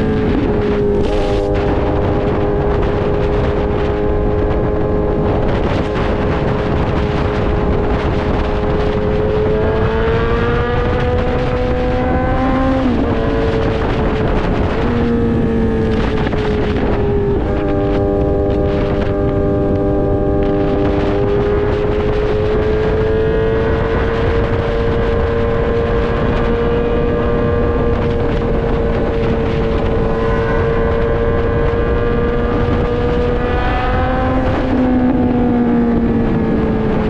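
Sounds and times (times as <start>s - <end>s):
motorcycle engine revving: 0.0s - 37.0s
wind noise: 0.0s - 37.0s.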